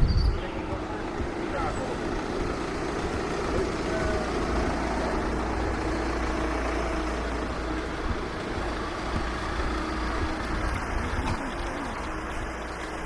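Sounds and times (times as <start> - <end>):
street ambience: 0.0 - 13.0
vehicle engine running: 0.0 - 13.0.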